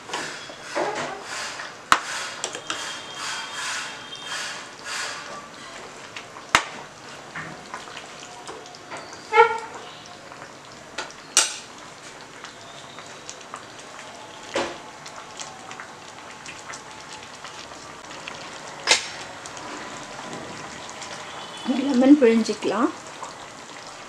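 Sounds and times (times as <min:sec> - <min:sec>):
gravy bubbling and popping: 0:04.1 - 0:24.0.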